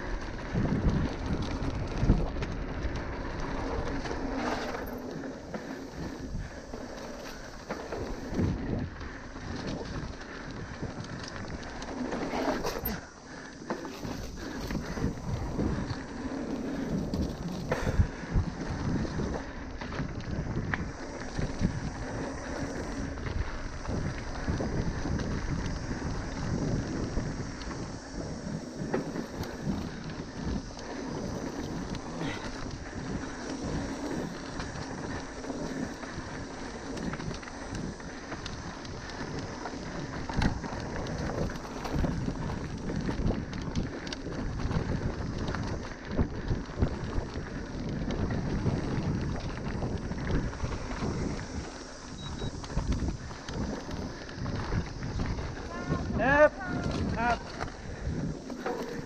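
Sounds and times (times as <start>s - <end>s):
bike tyres rolling on dirt: 0.0s - 59.0s
wind buffeting microphone: 0.0s - 59.0s.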